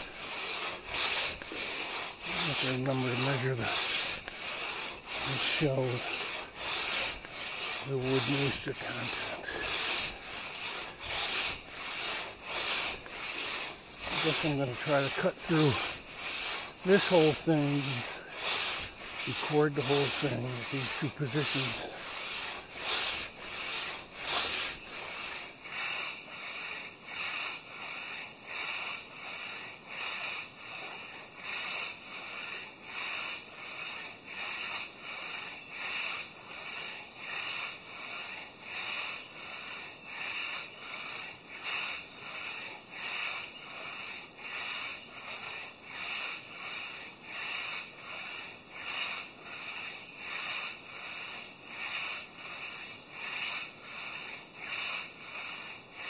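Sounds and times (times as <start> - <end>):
hand saw cutting wood: 0.0 - 56.0.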